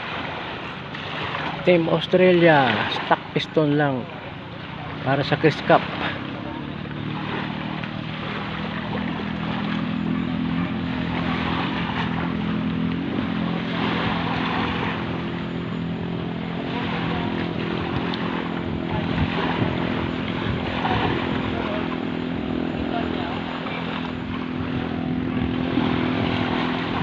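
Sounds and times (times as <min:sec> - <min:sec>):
boat engine drone: 0:00.0 - 0:27.0.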